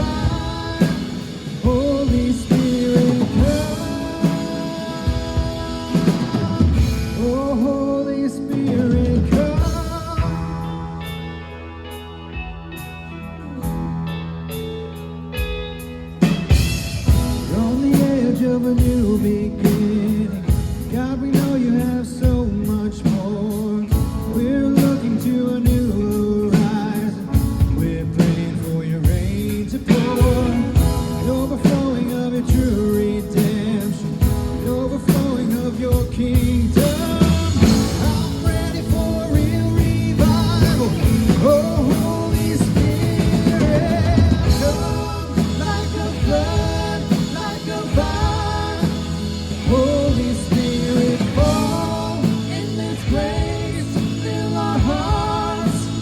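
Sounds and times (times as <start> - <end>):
person singing: 0.0 - 14.3, 17.0 - 56.0
drum kit: 0.0 - 56.0
guitar: 0.0 - 56.0.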